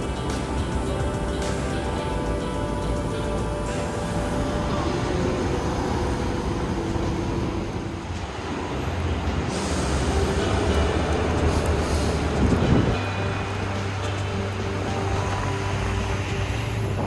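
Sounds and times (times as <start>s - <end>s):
rumbling vehicle noise: 0.0s - 17.0s.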